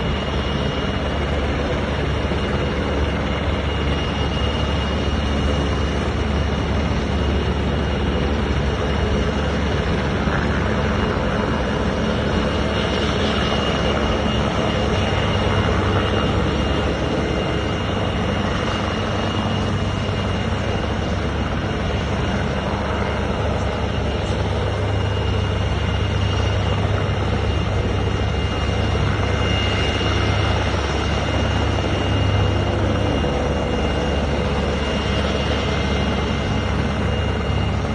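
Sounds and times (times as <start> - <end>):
helicopter rotor noise: 0.0 - 37.9.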